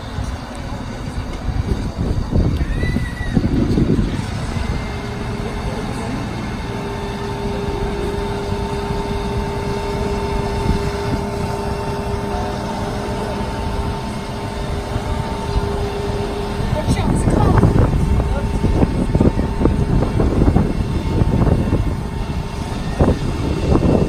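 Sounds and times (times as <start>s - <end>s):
hydraulic ladder mechanism whine: 0.0s - 24.0s.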